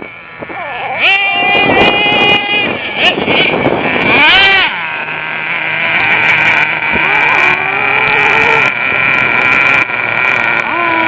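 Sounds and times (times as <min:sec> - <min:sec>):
rc truck engine high-pitched whine: 0:00.0 - 0:11.0.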